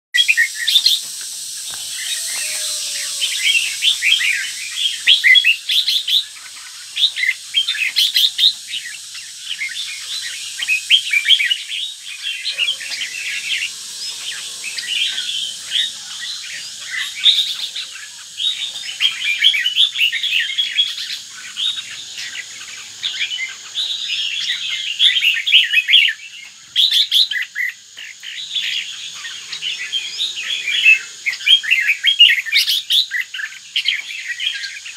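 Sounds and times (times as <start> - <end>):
bulbul singing: 0.2 - 34.9.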